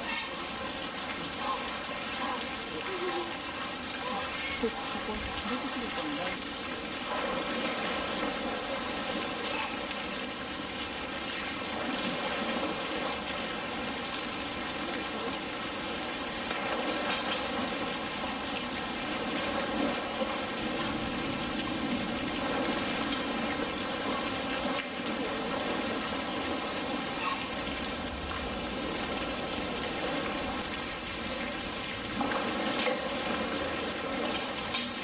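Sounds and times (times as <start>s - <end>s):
running water rushing: 0.0s - 35.0s.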